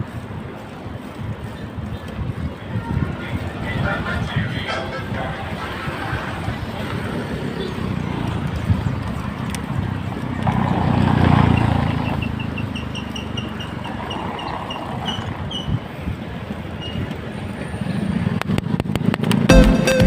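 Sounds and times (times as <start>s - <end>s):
bicycle road noise: 0.0s - 19.5s
wind rumbling on microphone: 0.0s - 19.5s.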